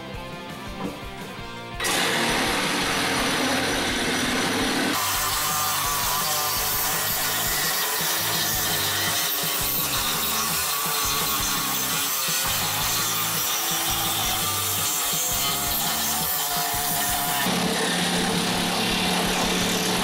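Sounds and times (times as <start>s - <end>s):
reciprocating saw cutting wood and nails: 1.8s - 20.0s.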